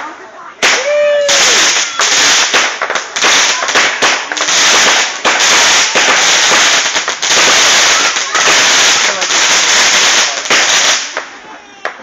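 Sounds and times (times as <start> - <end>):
firecrackers banging: 0.6 - 12.0.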